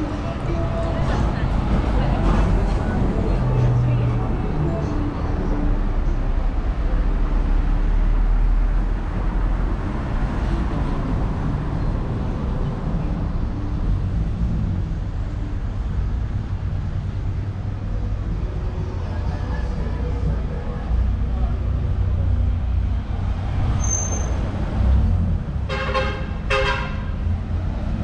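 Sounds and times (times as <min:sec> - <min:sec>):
passing traffic rumble: 0:00.0 - 0:28.0.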